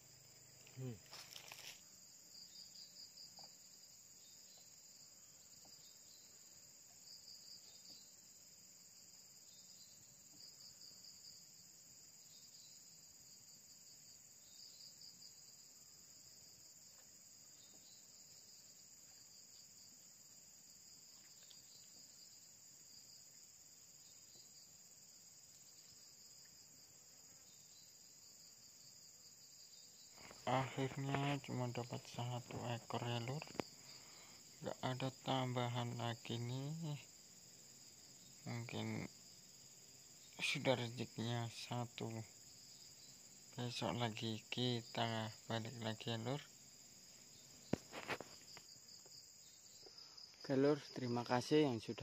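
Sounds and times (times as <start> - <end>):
insect chorus drone: 0.0 - 52.0
insect trills: 0.0 - 52.0.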